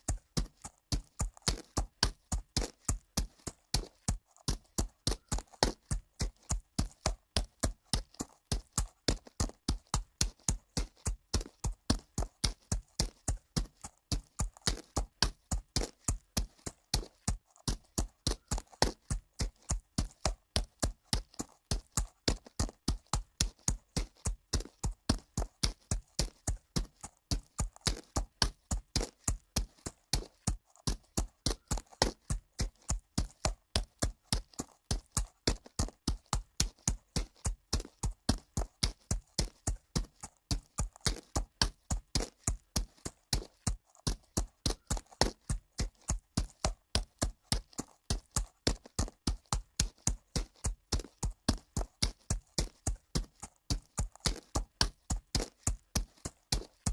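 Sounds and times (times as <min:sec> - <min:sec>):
horse hooves clip-clop on dirt: 0:00.0 - 0:56.9.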